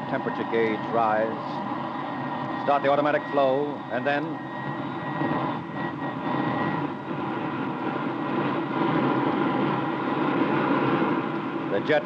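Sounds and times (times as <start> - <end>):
jet engine starting up: 0.0 - 12.0
thin jet whine: 0.0 - 12.0.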